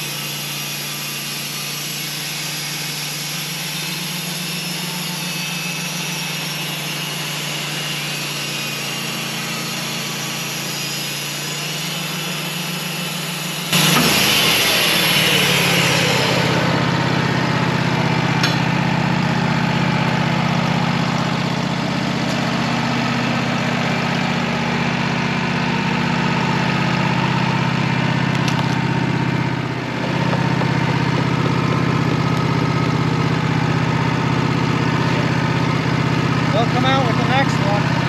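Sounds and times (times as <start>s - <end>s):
sawmill engine running: 0.0s - 38.0s.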